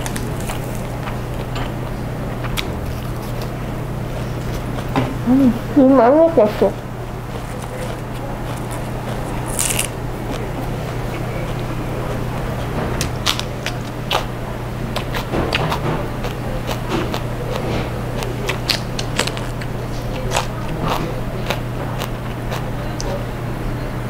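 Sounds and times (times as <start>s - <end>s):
person chewing crunchy food: 0.0s - 5.0s, 6.8s - 23.2s.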